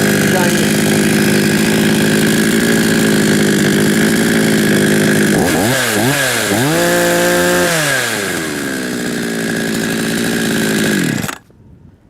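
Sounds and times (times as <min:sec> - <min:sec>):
chainsaw running: 0:00.0 - 0:11.5.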